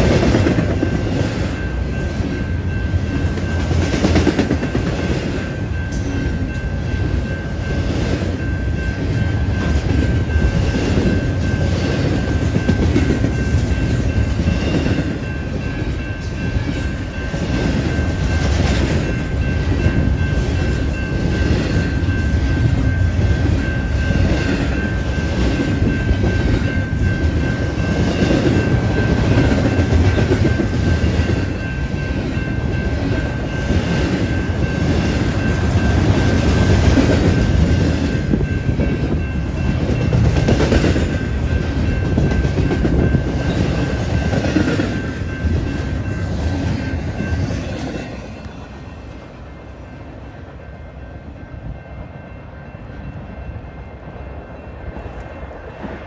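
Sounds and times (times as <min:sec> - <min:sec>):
wheels clickety-clack on rail joints: 0:00.0 - 0:49.6, 0:50.6 - 0:56.0
train wheels rumbling on rail: 0:00.0 - 0:56.0.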